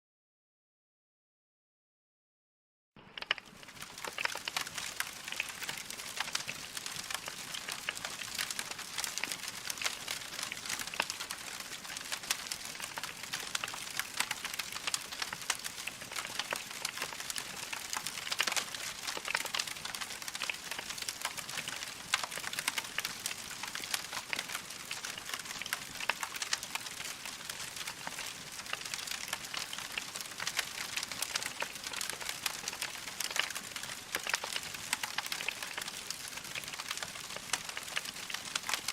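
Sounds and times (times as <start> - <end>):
logs crackling in a fireplace: 3.1 - 38.9.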